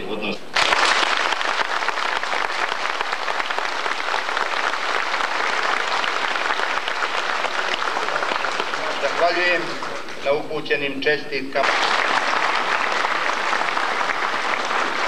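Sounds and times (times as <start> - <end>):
large audience applauding: 0.5 - 10.4, 11.6 - 15.0.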